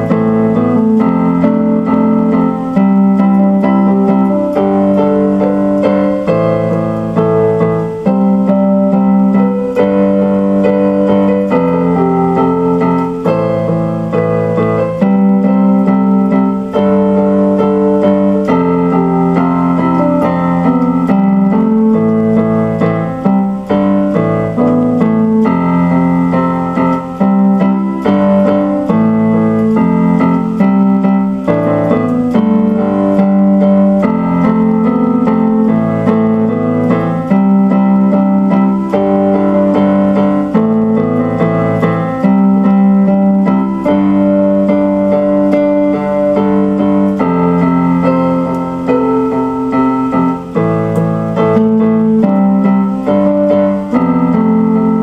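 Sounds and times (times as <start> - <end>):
keyboard piano chords: 0.0 - 55.0.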